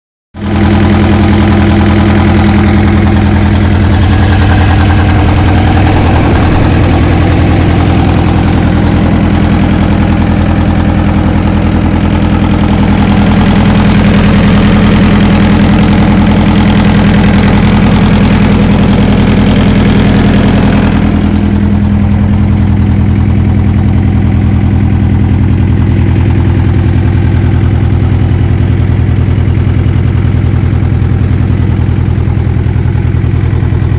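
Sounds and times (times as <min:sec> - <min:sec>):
loader diesel engine running: 0:00.4 - 0:33.9.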